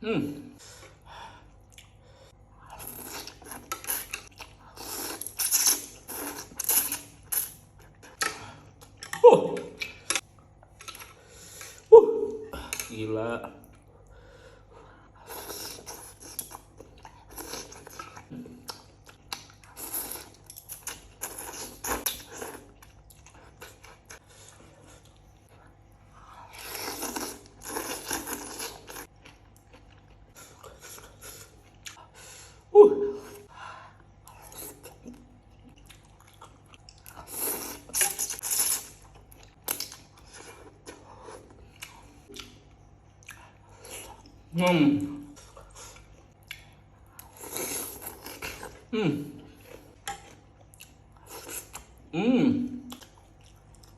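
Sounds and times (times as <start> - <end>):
chewing and crunching food: 0.7 - 11.9, 12.5 - 32.7, 33.4 - 52.1, 52.7 - 53.9.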